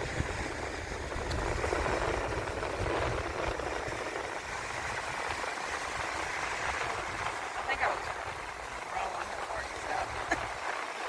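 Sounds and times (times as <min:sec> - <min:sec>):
surf: 0:00.0 - 0:11.0
wind buffeting microphone: 0:00.0 - 0:11.0.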